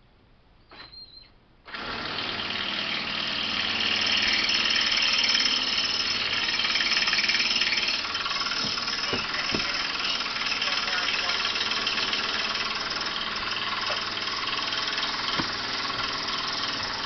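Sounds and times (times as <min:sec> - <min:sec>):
cordless drill running: 0:01.7 - 0:17.0.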